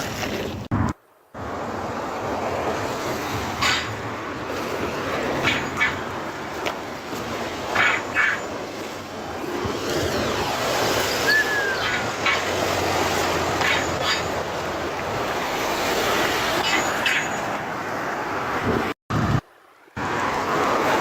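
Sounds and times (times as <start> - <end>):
bicycle rolling noise: 0.0 - 19.4
rushing wind: 0.0 - 21.0.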